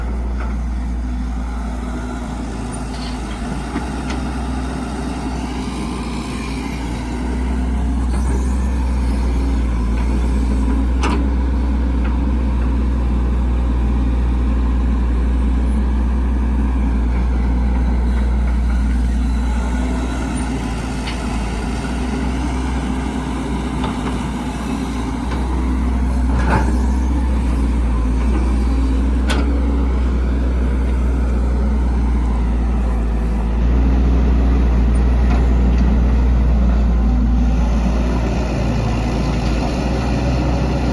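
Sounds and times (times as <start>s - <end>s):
diesel machinery rumbling: 0.0s - 40.9s.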